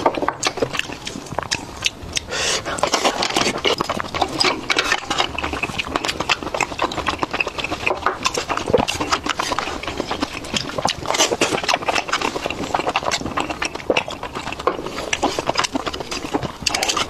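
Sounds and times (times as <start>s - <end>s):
wet chewing clicks and smacks: 0.0s - 17.0s.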